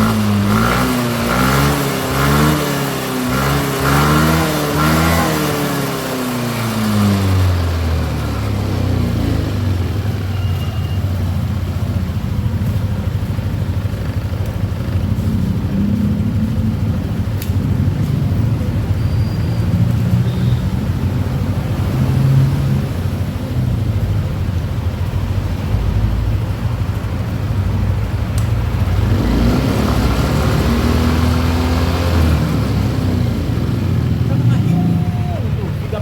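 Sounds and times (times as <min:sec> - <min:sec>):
road and traffic noise: 0:00.0 - 0:36.0
scooter engine running: 0:00.0 - 0:36.0.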